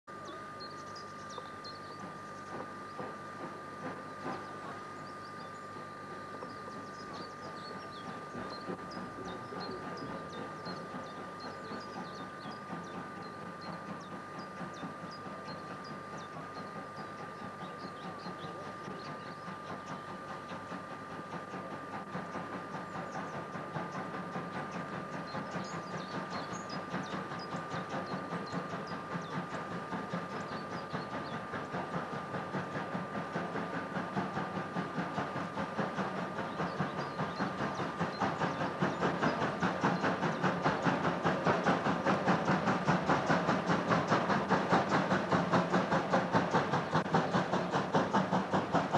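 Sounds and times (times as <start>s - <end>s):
rail noise from coaches: 0.1s - 48.9s
steam locomotive chuffing: 0.1s - 48.9s.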